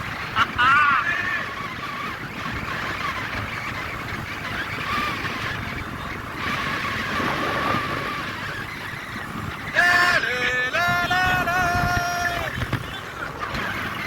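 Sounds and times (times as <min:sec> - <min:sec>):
motorcycle engine drone: 0:00.0 - 0:14.0
wind and road noise: 0:00.0 - 0:14.0.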